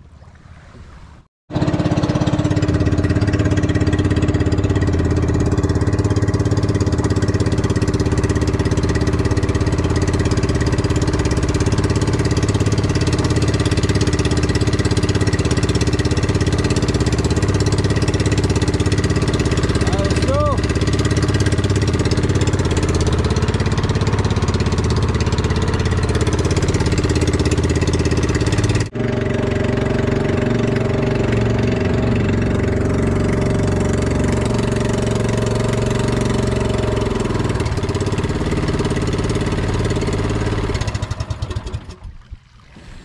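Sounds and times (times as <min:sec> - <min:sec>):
boat engine throbbing: 0:00.1 - 0:43.0.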